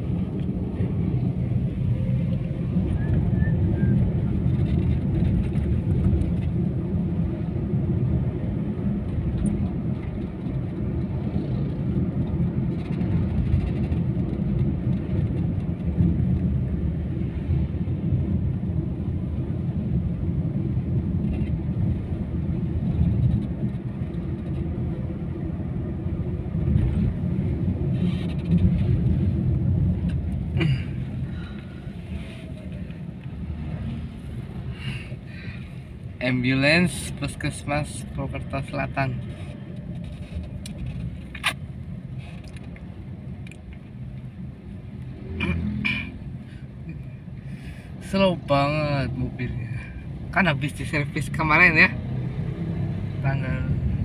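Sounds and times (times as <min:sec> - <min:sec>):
car engine rumble: 0:00.0 - 0:54.0
tyres on road: 0:00.0 - 0:54.0.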